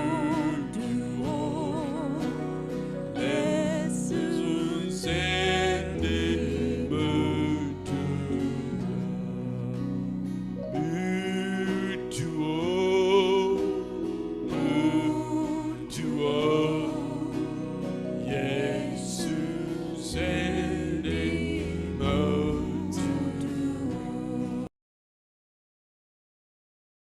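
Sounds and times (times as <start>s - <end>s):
deep bass line: 0.0s - 11.8s, 14.5s - 24.7s
gospel singing: 0.0s - 24.7s
instrumental backing: 0.0s - 24.7s.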